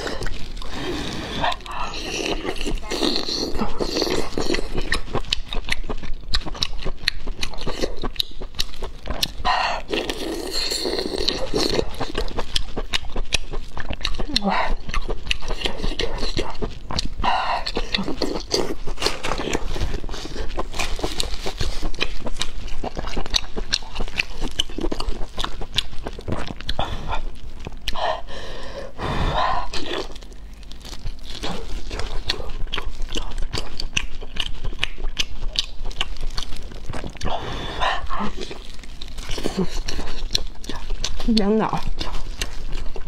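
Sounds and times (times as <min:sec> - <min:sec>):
chewing and biting food: 0:00.0 - 0:43.0.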